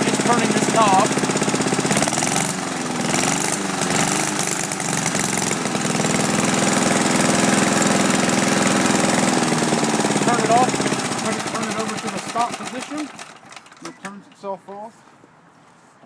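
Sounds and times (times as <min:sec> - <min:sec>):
lawn mower engine running: 0:00.0 - 0:14.7.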